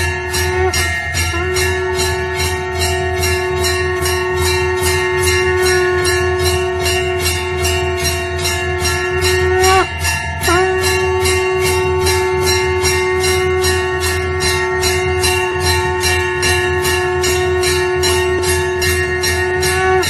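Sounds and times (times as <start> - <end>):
bells ringing rapidly: 0.0 - 20.0
long held note: 0.0 - 20.0.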